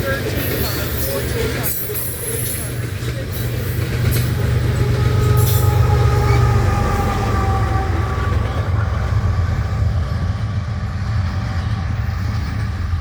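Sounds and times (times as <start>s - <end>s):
freight train cars rumbling past: 0.0s - 13.0s.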